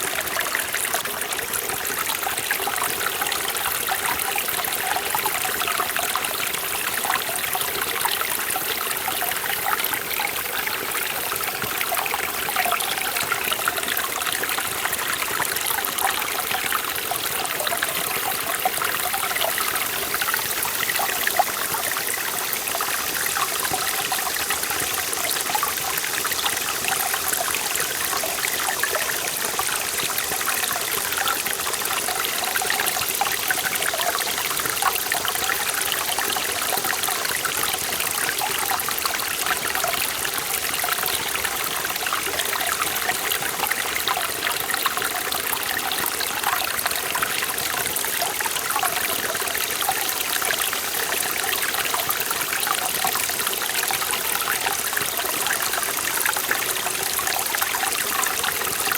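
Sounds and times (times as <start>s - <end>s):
stream flowing: 0.0s - 58.9s.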